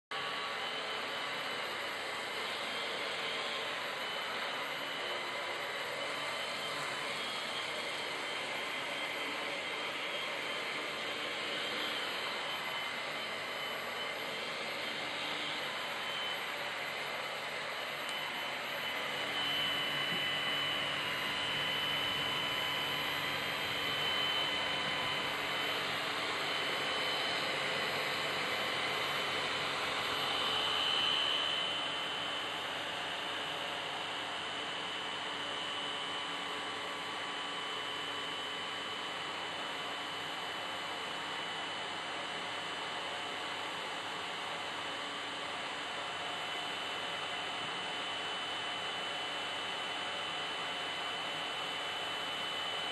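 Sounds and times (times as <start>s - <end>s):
vacuum cleaner running: 0.2s - 52.9s.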